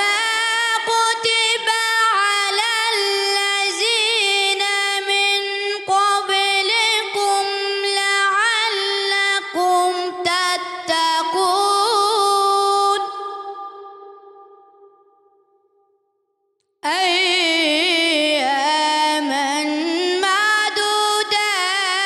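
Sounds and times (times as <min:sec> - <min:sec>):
boy chanting melodically: 0:00.0 - 0:14.7, 0:16.8 - 0:22.0.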